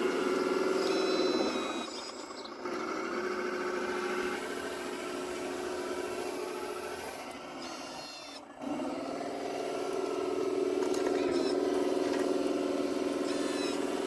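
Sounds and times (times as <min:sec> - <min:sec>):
model machine motor whining: 0:00.0 - 0:14.0.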